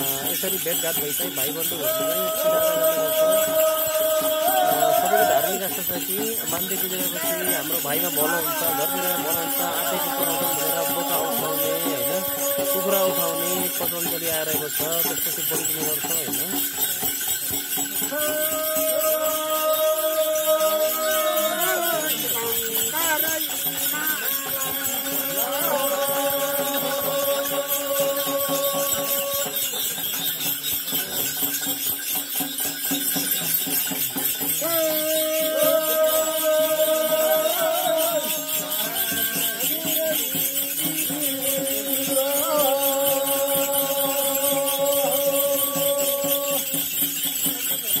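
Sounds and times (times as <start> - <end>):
bells jangling: 0.0 - 48.0.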